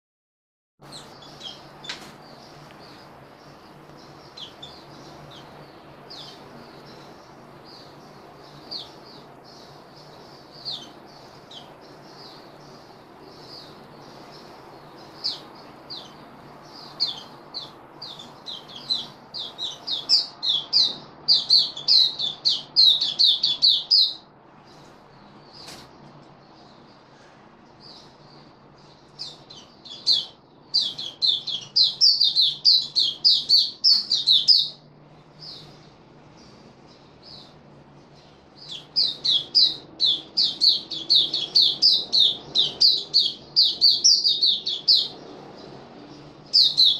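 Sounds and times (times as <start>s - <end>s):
bird chirping: 0.8s - 46.9s.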